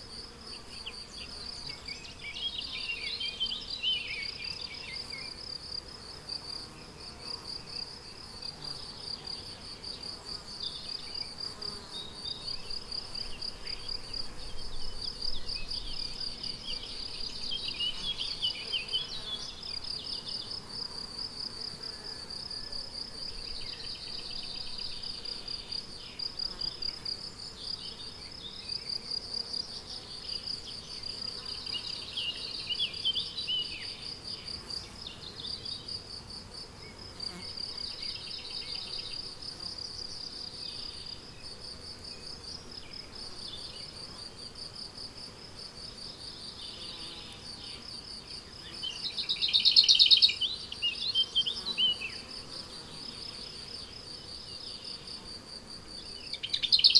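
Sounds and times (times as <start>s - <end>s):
crickets chirping: 2.3s - 56.9s.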